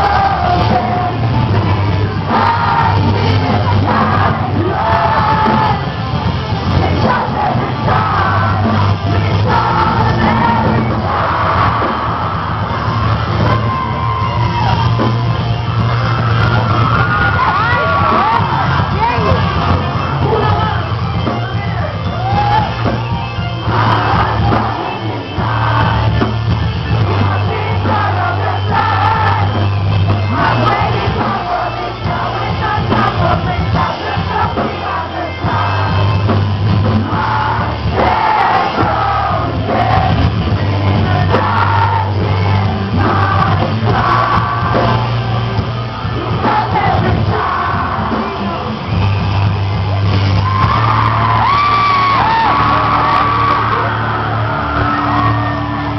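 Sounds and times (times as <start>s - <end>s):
vocalist singing: 0.0s - 15.2s, 17.3s - 55.9s
audience shouts: 0.0s - 55.9s
metalcore band playing live: 0.0s - 55.9s.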